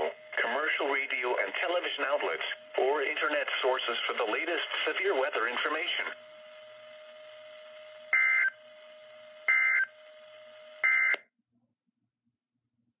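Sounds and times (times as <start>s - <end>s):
steady hum: 0.0s - 10.8s.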